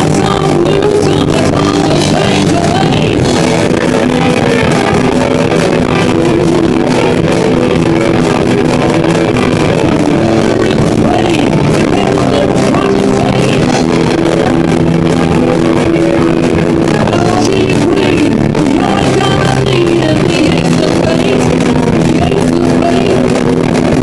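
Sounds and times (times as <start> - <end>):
distorted electric guitars: 0.0 - 24.0
drum kit: 0.0 - 24.0.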